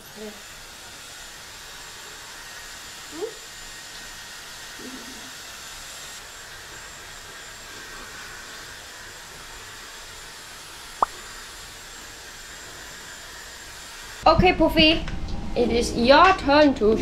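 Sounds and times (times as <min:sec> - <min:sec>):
hair dryer blowing: 0:00.0 - 0:14.4.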